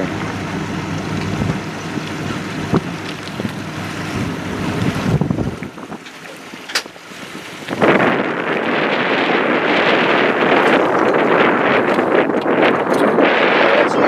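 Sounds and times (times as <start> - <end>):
low motor hum: 0.0 - 14.0
water rushing and splashing: 0.0 - 14.0
wind buffeting microphone: 0.0 - 14.0.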